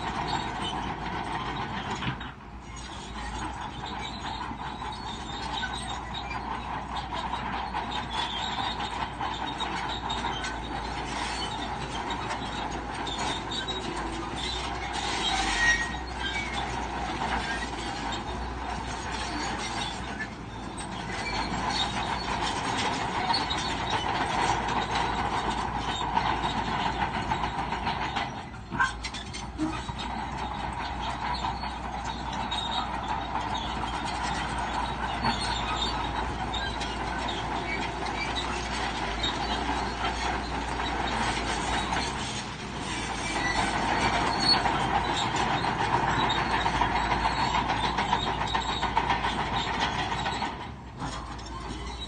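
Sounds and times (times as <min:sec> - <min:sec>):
bulldozer running: 0:00.0 - 0:52.0
steel tracks squealing: 0:00.0 - 0:52.0.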